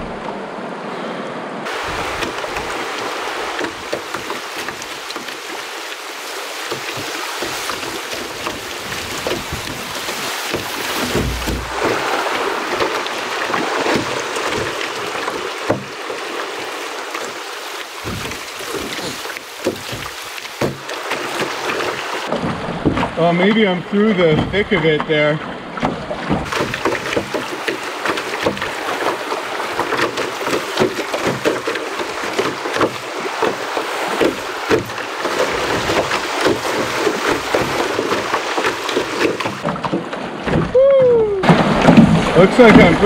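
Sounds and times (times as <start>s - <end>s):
canoe and paddle knocks: 0.0s - 0.4s, 1.6s - 43.0s
rushing white water: 0.0s - 43.0s.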